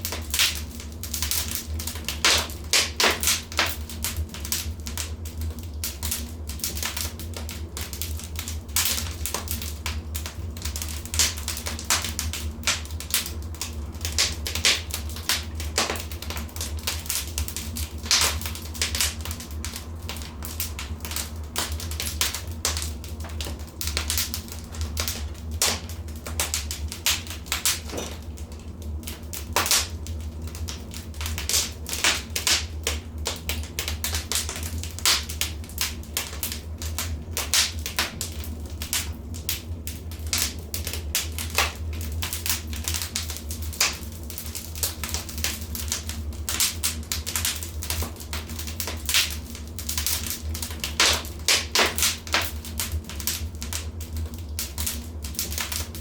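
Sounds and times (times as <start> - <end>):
fire crackling in a fireplace: 0.0 - 56.0
low steady hum: 0.0 - 56.0.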